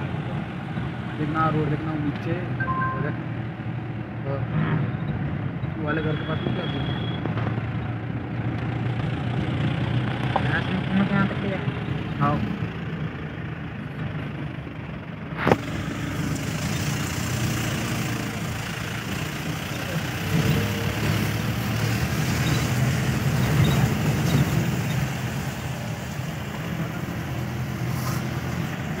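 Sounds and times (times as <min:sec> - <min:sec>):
car engine and tyre noise: 0:00.0 - 0:29.0.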